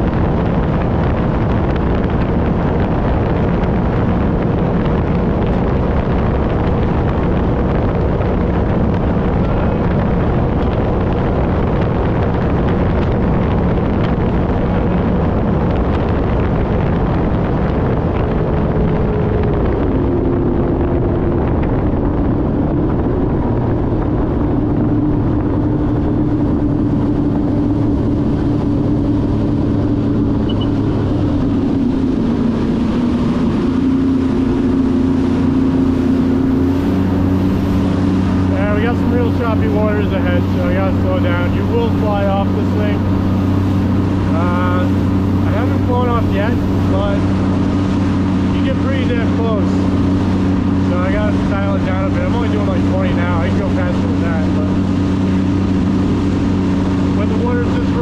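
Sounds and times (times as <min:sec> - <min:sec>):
watercraft engine droning: 0:00.0 - 0:58.0
wind on microphone: 0:00.0 - 0:58.0.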